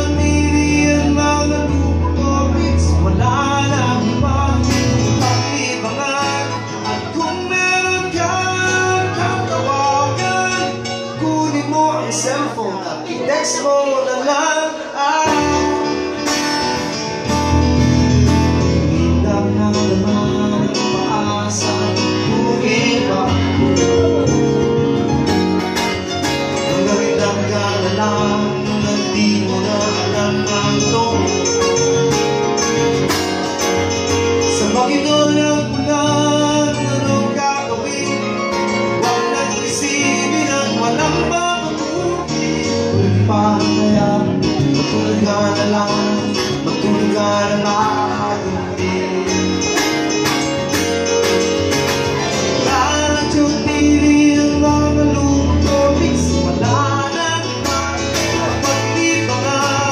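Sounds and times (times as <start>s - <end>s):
electronic keyboard: 0.0s - 59.9s
man singing: 0.0s - 59.9s
strummed acoustic guitar: 0.0s - 59.9s.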